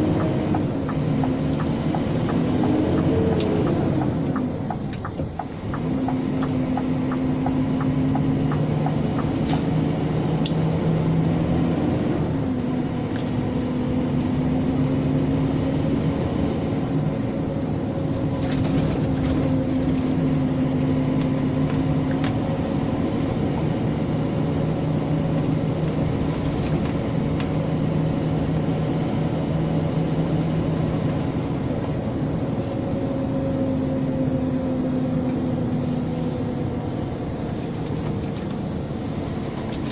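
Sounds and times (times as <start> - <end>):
diesel truck engine running: 0.0 - 39.9
road noise: 0.0 - 39.9.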